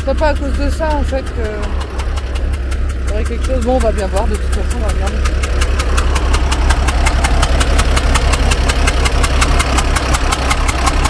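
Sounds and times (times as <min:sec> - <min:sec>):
diesel engine idling: 0:00.0 - 0:11.0
engine ticking knock: 0:00.0 - 0:11.0.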